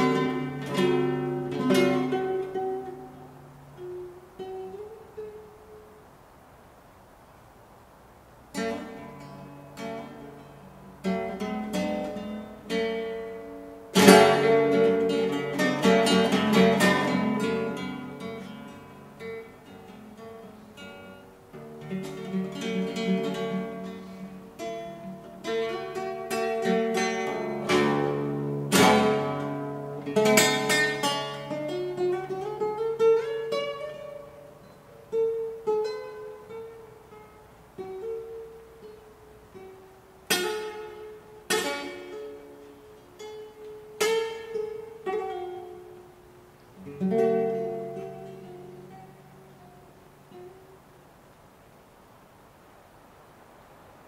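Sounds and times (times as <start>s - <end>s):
flamenco acoustic guitar: 0.0s - 54.0s.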